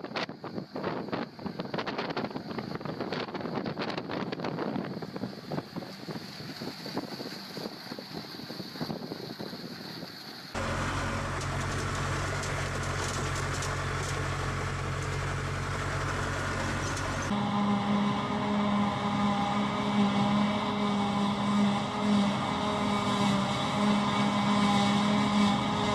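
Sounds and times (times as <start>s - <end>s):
low engine drone: 0.0s - 25.9s
pulsing machine hum with whine: 0.0s - 25.9s.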